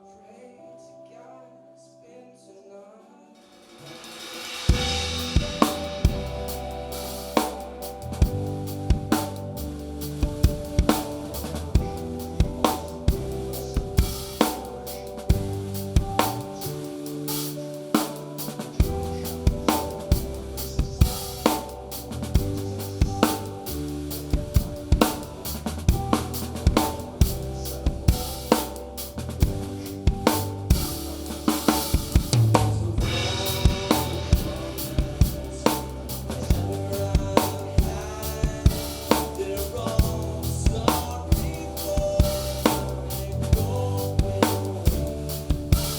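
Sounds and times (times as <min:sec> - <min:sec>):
drum kit: 0:03.5 - 0:45.9
rock band playing live: 0:03.9 - 0:45.9.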